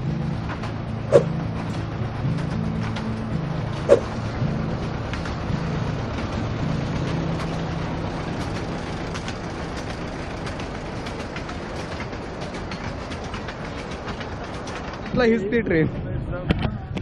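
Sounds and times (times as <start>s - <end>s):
toy train rumbling past: 0.0s - 16.7s
carriage wheels clicking on track: 0.0s - 17.0s
low hum: 0.0s - 17.0s.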